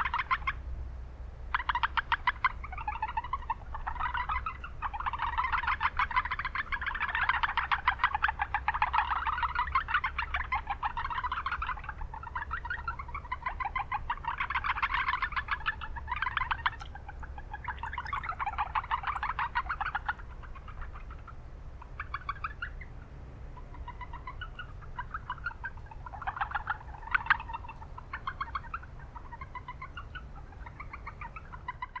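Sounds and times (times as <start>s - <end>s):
frogs calling: 0.0s - 0.6s, 1.5s - 32.0s
low rumble of town noise: 0.0s - 32.0s.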